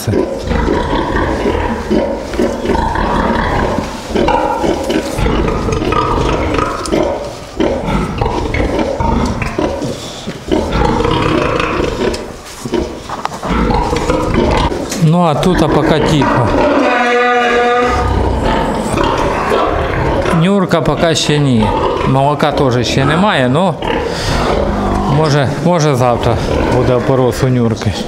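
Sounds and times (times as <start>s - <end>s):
pigs screaming: 0.0s - 27.4s.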